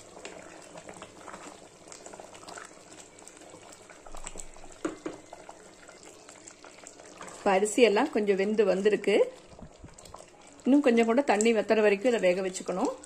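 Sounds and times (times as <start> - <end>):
water boiling and bubbling: 0.0 - 13.0
wooden spatula stirring: 0.0 - 13.0.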